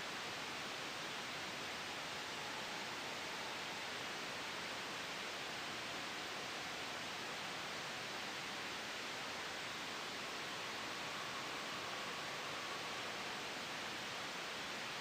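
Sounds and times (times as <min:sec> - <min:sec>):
soft white noise hiss: 0:00.0 - 0:15.0.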